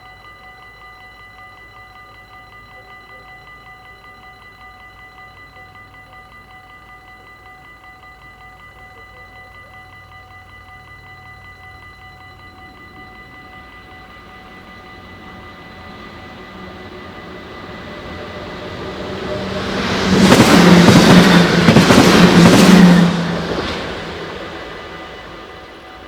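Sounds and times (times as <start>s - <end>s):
level-crossing warning bell ringing: 0.0s - 26.0s.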